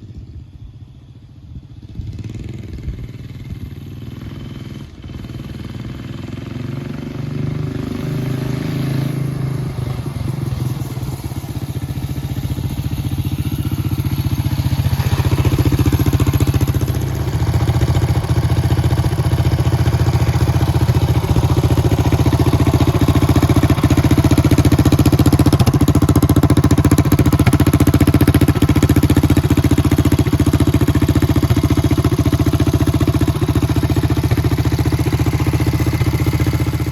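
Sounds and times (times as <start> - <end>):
mini bike engine running: 0.0 - 36.9.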